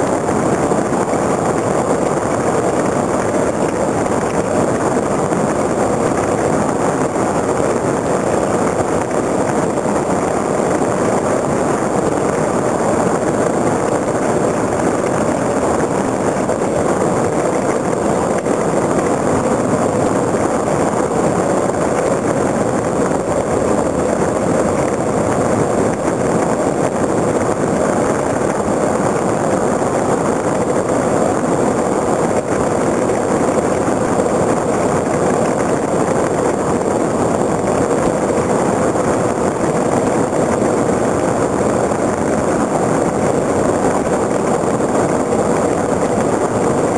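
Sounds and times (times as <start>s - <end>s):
wheels roaring on rough asphalt: 0.1s - 46.9s.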